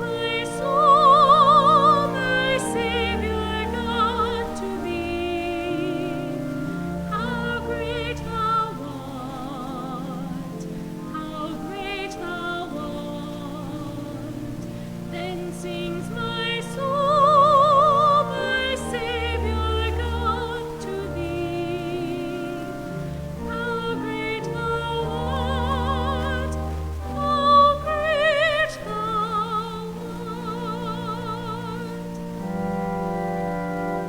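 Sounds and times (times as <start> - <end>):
instrumental accompaniment: 0.0 - 34.0
person singing with vibrato: 0.0 - 34.0.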